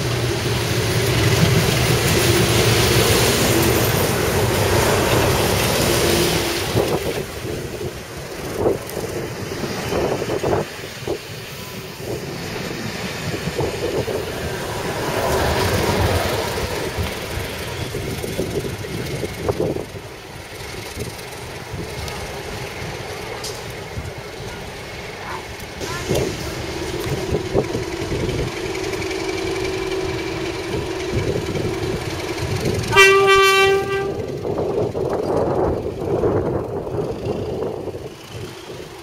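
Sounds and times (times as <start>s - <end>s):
diesel locomotive engine: 0.0s - 39.0s.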